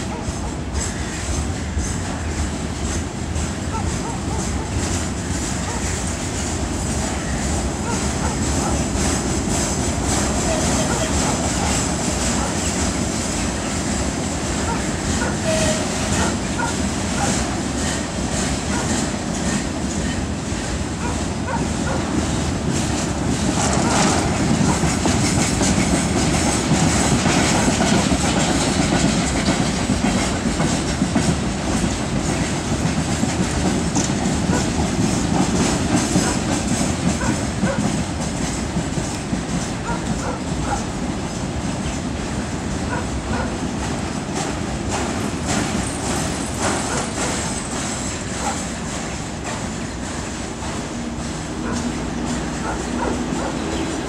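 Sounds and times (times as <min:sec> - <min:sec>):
train wheels clattering over joints: 0:00.0 - 0:54.0.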